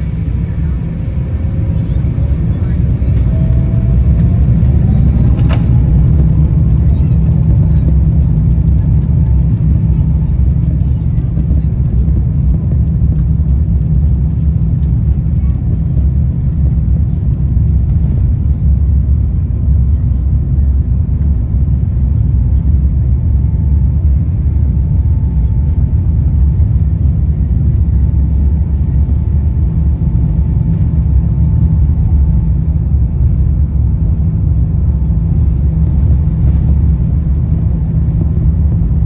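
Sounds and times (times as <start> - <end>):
aircraft cabin low rumble: 0.0 - 39.0.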